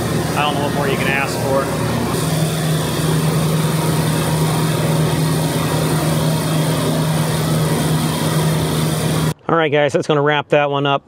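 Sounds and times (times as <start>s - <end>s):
compressors humming: 0.0s - 9.4s
cooling fan whirring: 0.0s - 9.4s.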